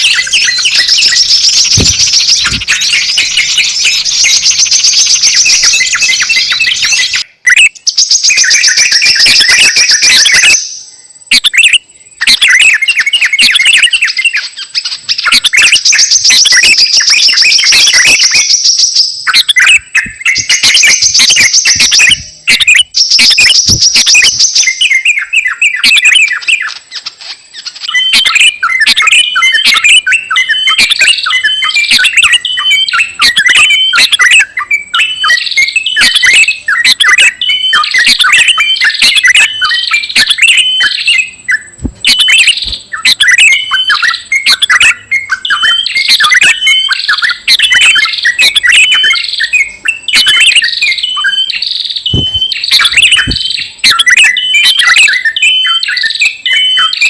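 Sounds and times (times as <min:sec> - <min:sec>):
bird lure call chirps: 0:00.0 - 0:57.0.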